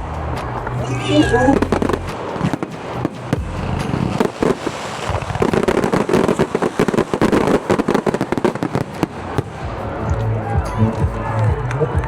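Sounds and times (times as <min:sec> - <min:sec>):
fireworks bangs and crackles: 0:00.0 - 0:11.5.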